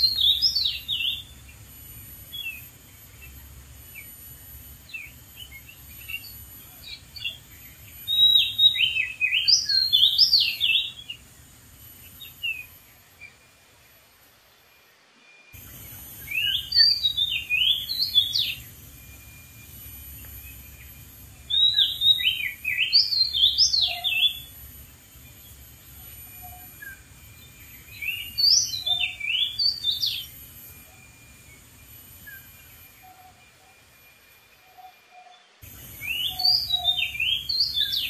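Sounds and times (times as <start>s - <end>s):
bird singing whistled notes: 0.0s - 13.9s, 14.7s - 38.0s
faint high hiss: 0.0s - 38.0s.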